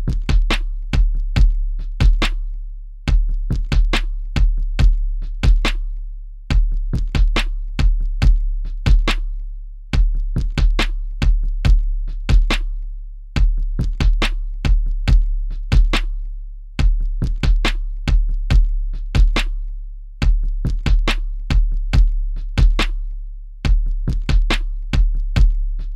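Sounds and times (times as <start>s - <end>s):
drum machine beat: 0.0s - 25.9s.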